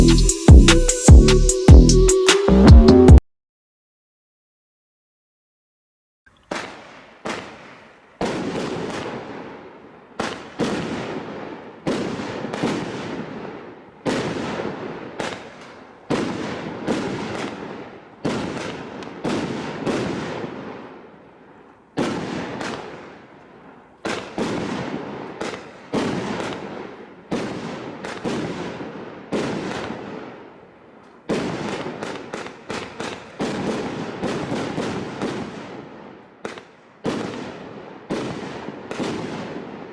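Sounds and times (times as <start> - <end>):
fireworks bangs with crackle: 6.3 - 39.9.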